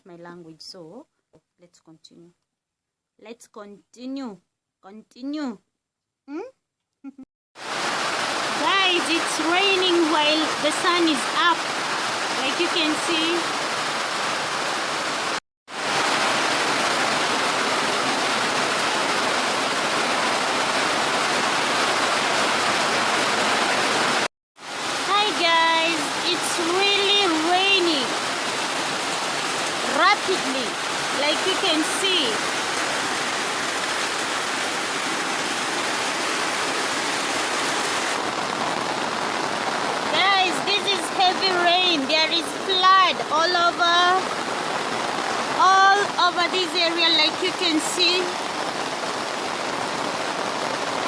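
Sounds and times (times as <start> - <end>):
heavy rain pouring: 7.6 - 51.0.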